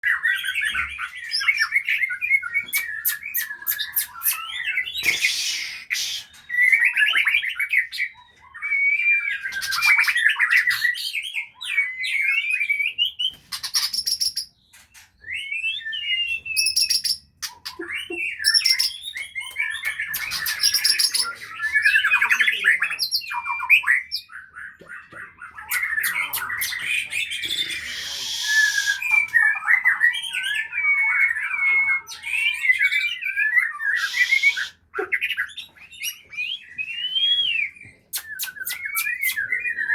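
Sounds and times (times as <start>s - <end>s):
songbird singing whistled phrases: 0.1s - 14.6s, 15.2s - 24.3s, 25.6s - 39.9s.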